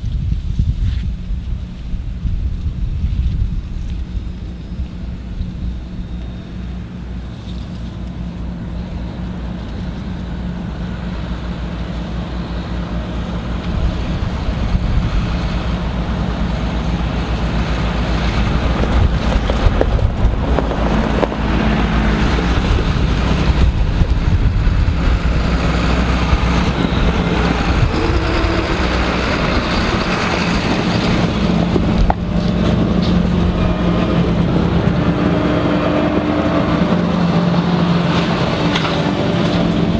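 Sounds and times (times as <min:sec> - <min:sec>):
tractor diesel engines rumbling: 0:00.0 - 0:39.9.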